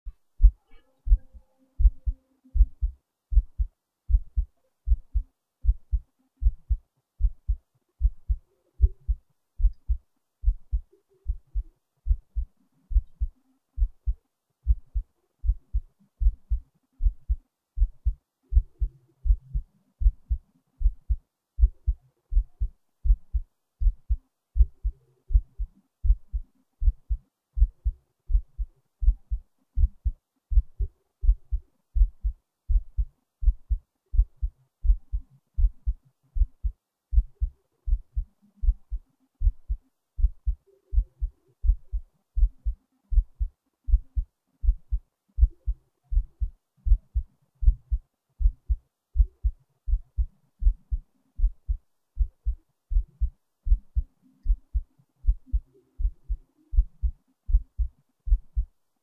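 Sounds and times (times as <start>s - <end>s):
heartbeat thumps: 0.1s - 58.7s.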